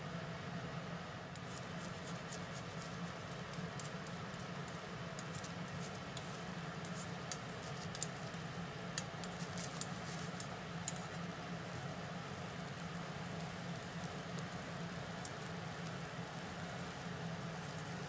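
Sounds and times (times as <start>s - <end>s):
egg sizzling in a pan: 1.3s - 18.0s.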